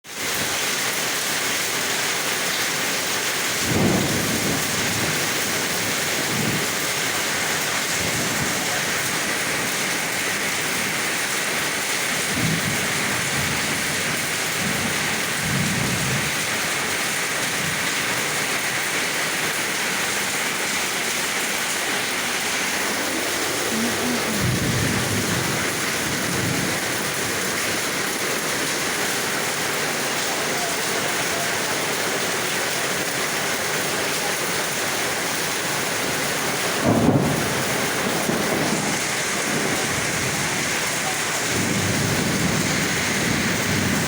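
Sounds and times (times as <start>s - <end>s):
heavy rain pouring: 0.0s - 44.0s
thunder rumbles: 3.4s - 33.6s, 35.1s - 44.0s.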